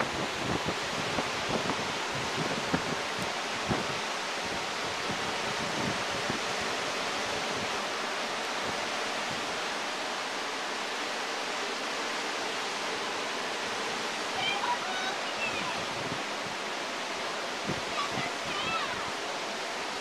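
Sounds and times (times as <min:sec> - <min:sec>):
ocean surf breaking: 0:00.0 - 0:20.0
wind: 0:00.0 - 0:20.0.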